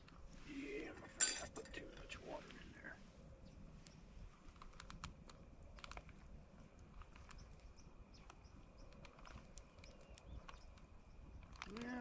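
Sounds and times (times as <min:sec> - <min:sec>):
small clicks and crackles: 0:00.0 - 0:03.0, 0:03.7 - 0:12.0
low background rumble: 0:00.0 - 0:12.0.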